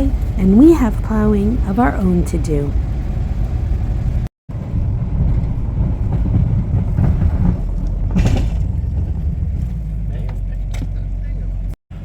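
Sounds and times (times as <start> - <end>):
snow plow engine rumbling: 0.0 - 12.0.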